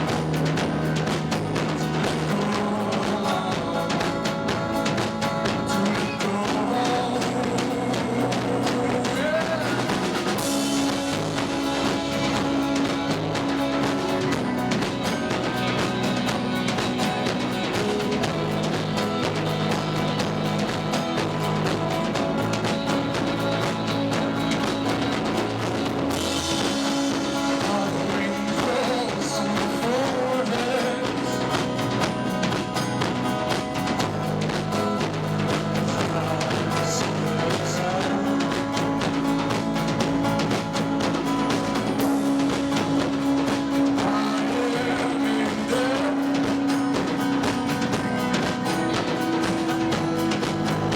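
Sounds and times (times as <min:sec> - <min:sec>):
drum kit: 0:00.0 - 0:50.9
electric guitar: 0:00.0 - 0:50.9
live rock band playing: 0:00.0 - 0:50.9.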